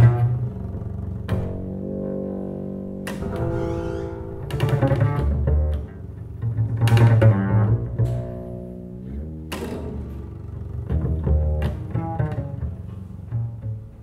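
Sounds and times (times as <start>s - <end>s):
bowed double bass: 0.0s - 14.0s
plucked double bass: 0.0s - 14.0s.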